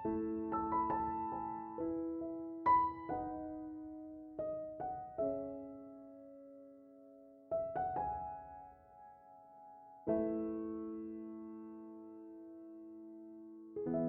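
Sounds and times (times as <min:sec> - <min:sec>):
slow gentle solo piano: 0:00.0 - 0:14.0.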